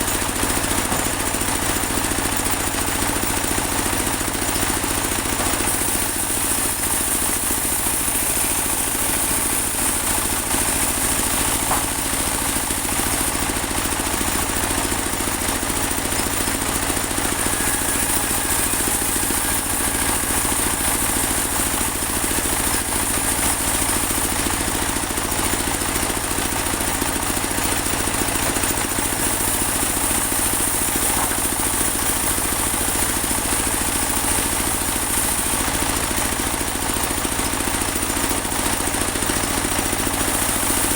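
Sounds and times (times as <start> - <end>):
bandsaw sawmill engine drone: 0.0 - 40.9
high steady saw whine: 0.0 - 40.9.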